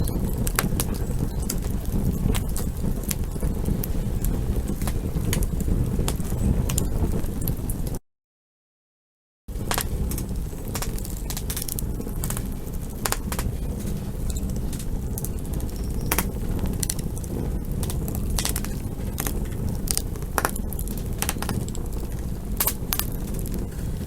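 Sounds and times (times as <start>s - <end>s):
campfire low rush: 0.0s - 8.0s, 9.5s - 24.0s
wood crackling and popping: 0.0s - 8.0s, 9.5s - 24.0s.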